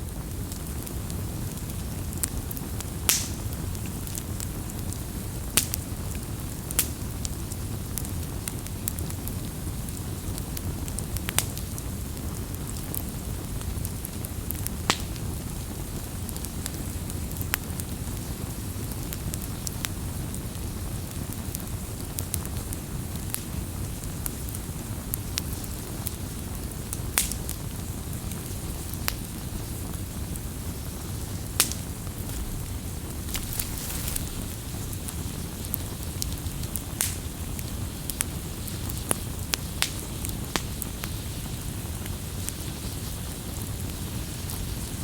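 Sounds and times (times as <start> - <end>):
campfire crackling: 0.0 - 45.0
burning wood popping: 0.1 - 19.8, 21.5 - 45.0.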